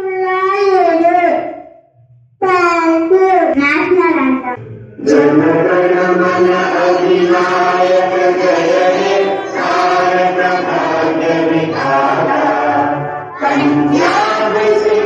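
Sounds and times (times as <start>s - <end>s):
children chanting a prayer: 0.0s - 1.5s, 2.7s - 15.0s.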